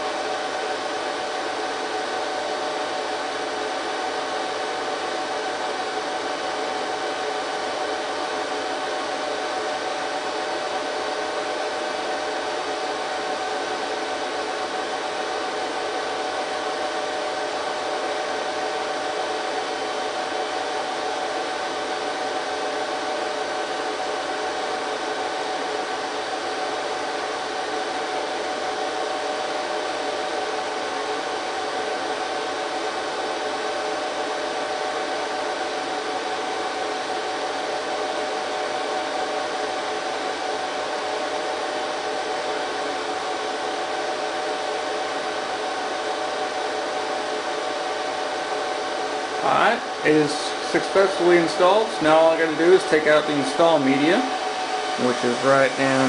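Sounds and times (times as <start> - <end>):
server cooling fans whirring: 0.0 - 56.0.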